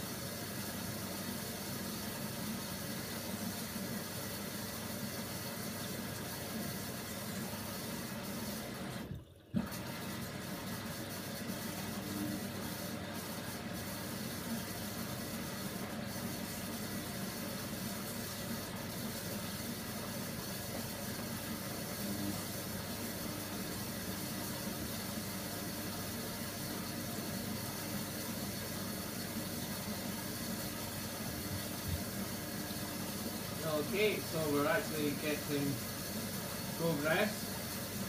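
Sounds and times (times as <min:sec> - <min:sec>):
water sloshing in washing machine: 0:00.0 - 0:38.0.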